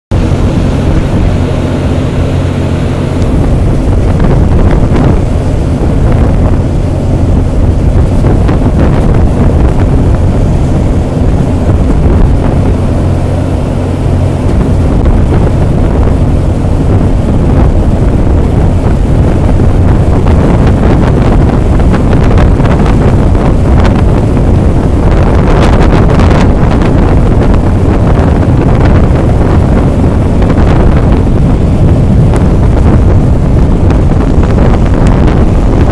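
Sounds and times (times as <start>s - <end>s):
low engine hum: 0.0s - 35.9s
wind buffeting microphone: 0.1s - 35.9s.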